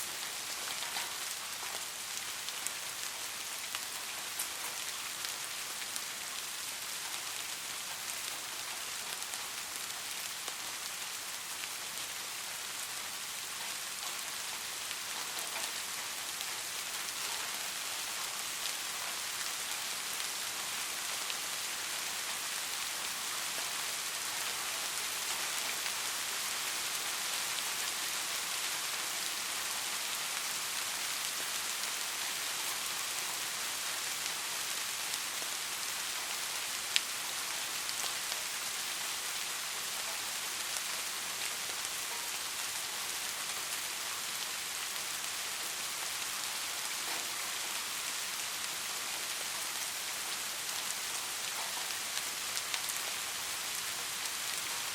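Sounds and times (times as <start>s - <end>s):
rain pattering on street: 0.0s - 54.9s.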